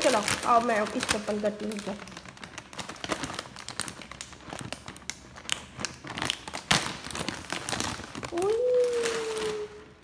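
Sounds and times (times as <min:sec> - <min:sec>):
food packet crinkling: 0:00.0 - 0:10.0.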